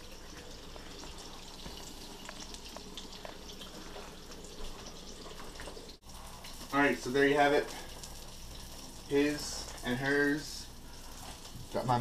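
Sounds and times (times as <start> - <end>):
fish frying in a pan: 0.0 - 12.0
pot of potatoes boiling: 0.0 - 12.0.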